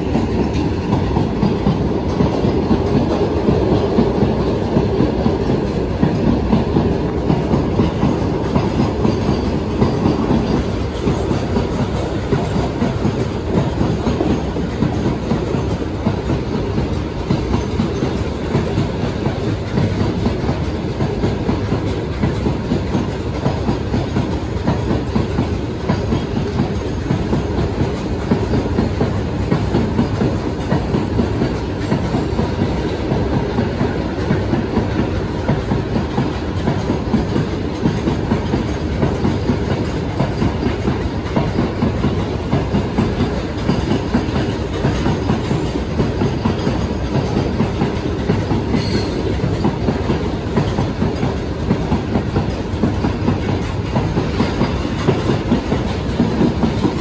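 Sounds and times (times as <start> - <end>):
freight train rumble: 0.0 - 57.0
train wheel knocks: 0.0 - 57.0.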